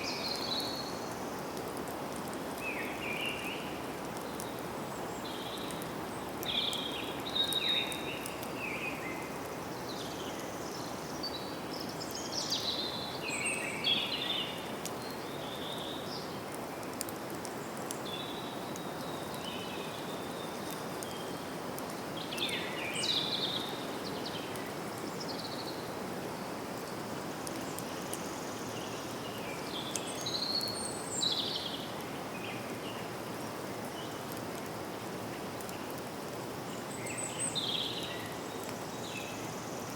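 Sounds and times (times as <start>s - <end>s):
birds singing: 0.0s - 1.4s, 2.6s - 16.8s, 17.5s - 33.2s, 36.6s - 39.9s
steady background hiss: 0.0s - 39.9s.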